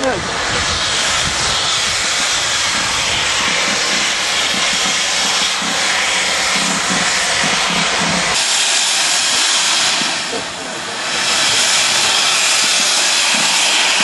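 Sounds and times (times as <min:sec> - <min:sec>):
hiss of escaping steam: 0:00.0 - 0:14.0
locomotive exhaust beats: 0:00.0 - 0:14.0.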